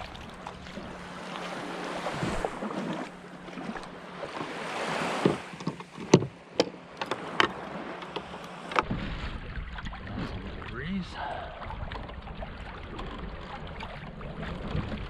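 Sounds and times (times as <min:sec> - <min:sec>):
sharp knocks and splashes: 0:00.0 - 0:15.0
water sloshing around kayak: 0:00.0 - 0:15.0.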